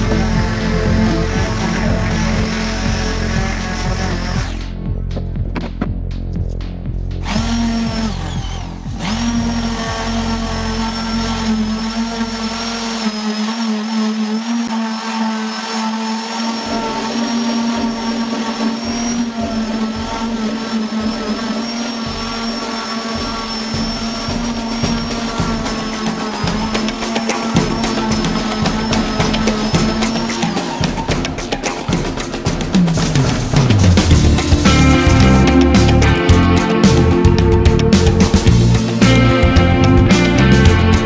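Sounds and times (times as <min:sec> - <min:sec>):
orbital sander on wood: 0:00.0 - 0:04.8, 0:07.2 - 0:41.0.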